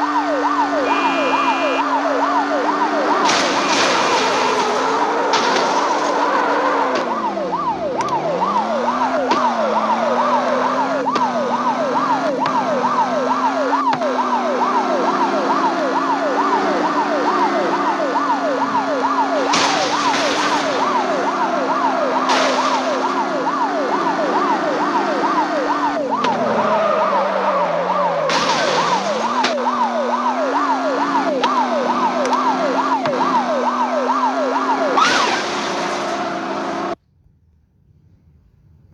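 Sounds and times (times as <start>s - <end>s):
car engine revving: 0.0s - 37.0s
police siren yelping: 0.0s - 37.0s.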